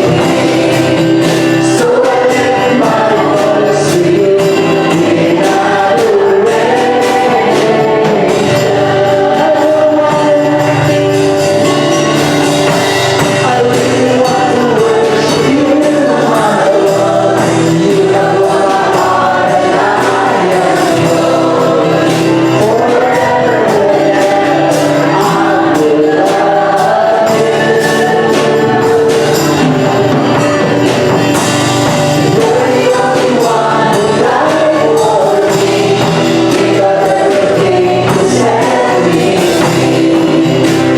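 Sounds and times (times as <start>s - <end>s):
choir singing a gospel hymn: 0.0s - 40.9s
instrumental accompaniment: 0.0s - 40.9s.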